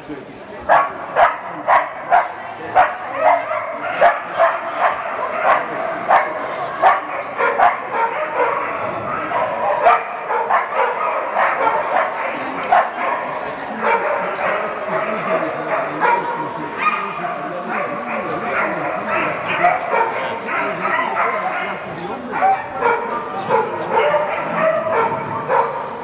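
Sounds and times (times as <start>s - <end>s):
voices murmuring: 0.0s - 26.0s
dog barking: 0.7s - 26.0s.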